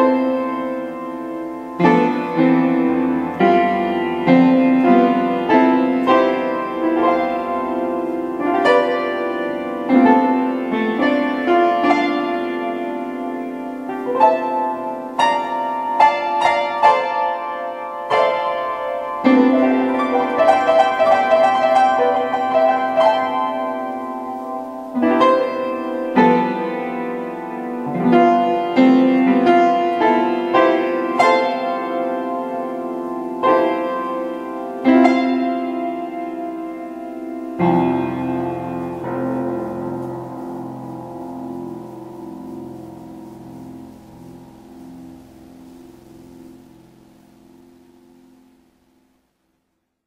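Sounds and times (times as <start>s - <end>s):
solo piano chords and melody: 0.0s - 50.0s.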